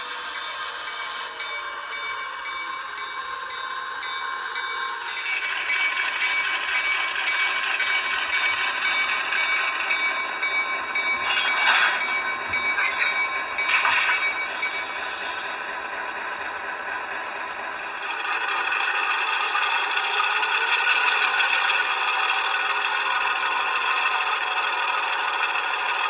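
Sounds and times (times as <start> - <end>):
model train diesel engine sound: 0.0 - 26.0.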